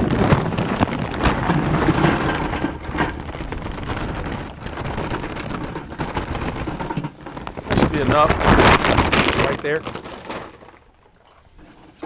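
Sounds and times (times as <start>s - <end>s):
charcoal pouring into grill: 0.0s - 11.0s.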